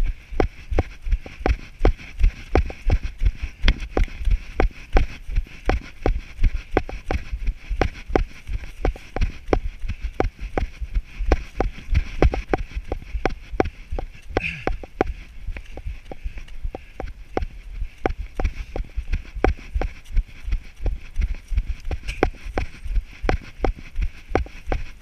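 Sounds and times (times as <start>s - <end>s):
running footsteps on dirt trail: 0.0s - 25.0s.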